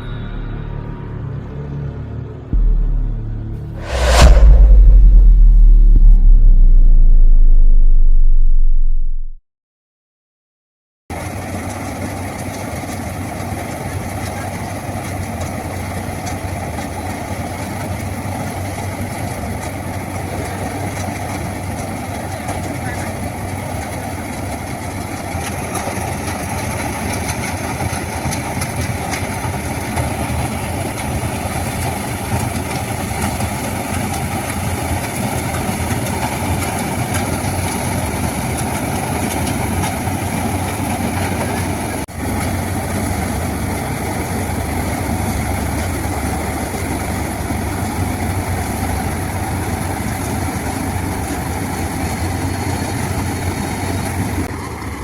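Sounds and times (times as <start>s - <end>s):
diesel engine running: 0.0s - 9.4s, 11.2s - 55.0s.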